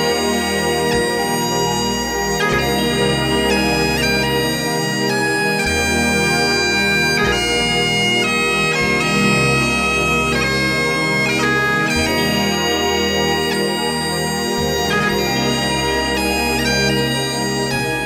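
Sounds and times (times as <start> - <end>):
bagpipe melody over drone: 0.0 - 18.0.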